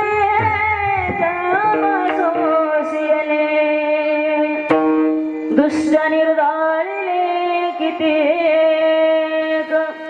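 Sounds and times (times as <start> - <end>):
person singing devotional song: 0.0 - 10.0.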